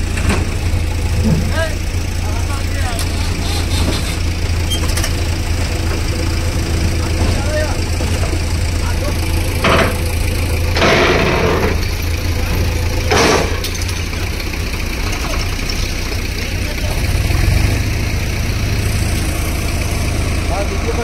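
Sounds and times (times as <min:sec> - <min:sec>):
diesel engines running: 0:00.0 - 0:21.0
loud noisy bursts: 0:00.9 - 0:21.0.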